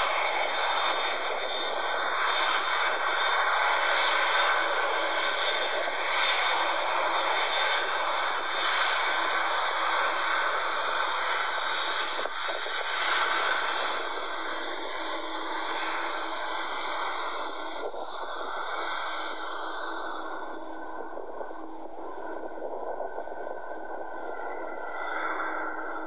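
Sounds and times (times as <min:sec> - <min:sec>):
jet engines hissing: 0:00.0 - 0:22.4.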